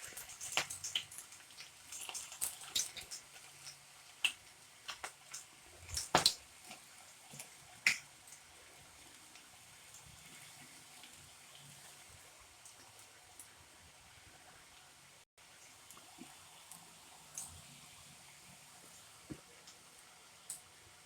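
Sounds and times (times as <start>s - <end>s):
dough frying in hot oil: 0.0s - 21.0s.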